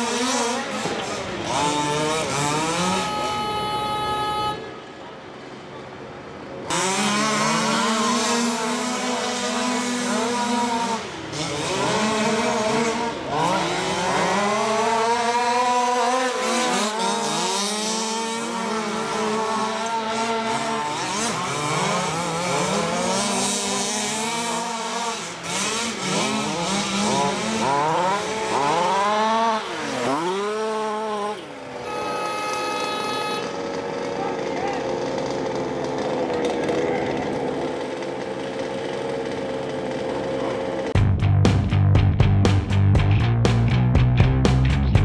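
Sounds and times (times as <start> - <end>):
rc car engines revving: 0.0 - 4.6, 6.5 - 41.0.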